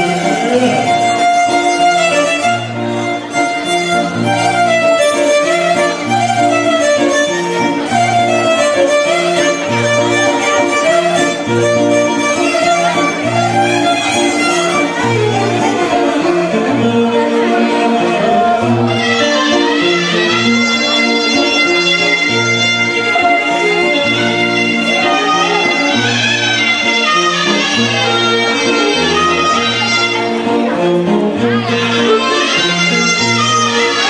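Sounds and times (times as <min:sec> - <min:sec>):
violin playing ornamented melody: 0:00.0 - 0:34.0.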